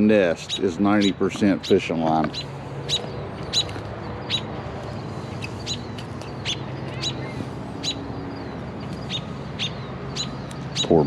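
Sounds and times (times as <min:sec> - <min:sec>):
robin giving sharp high calls: 0:00.4 - 0:11.0.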